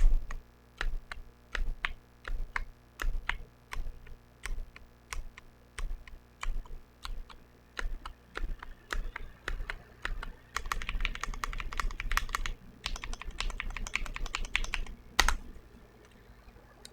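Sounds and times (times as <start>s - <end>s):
mechanical keyboard typing: 0.0s - 16.1s.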